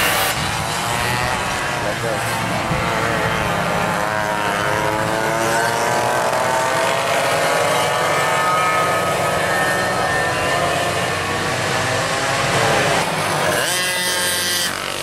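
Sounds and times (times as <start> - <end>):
kart engines whining: 0.0 - 15.0.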